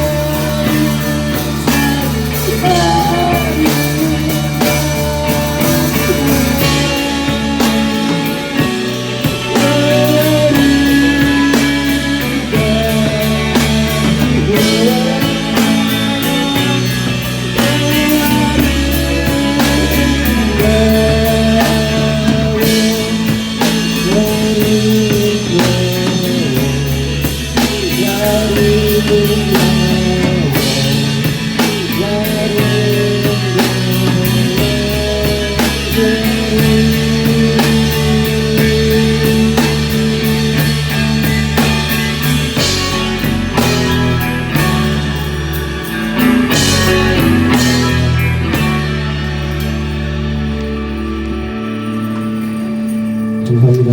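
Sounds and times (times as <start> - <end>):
bass: 0.0 - 53.9
drum kit beat: 0.0 - 53.9
gliding guitar melody: 0.0 - 53.9.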